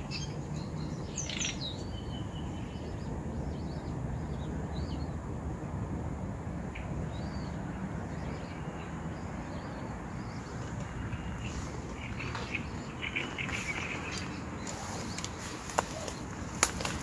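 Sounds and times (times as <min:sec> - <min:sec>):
birds singing and calling: 0:00.0 - 0:05.4, 0:06.6 - 0:17.0.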